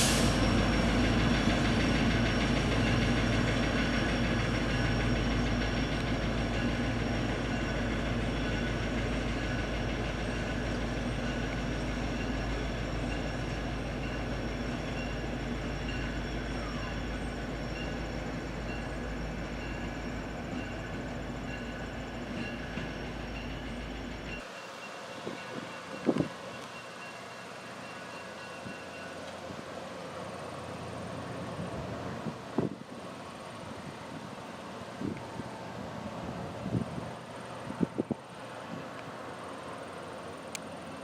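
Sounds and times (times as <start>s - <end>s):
passenger train rumbling on track: 0.0s - 41.0s.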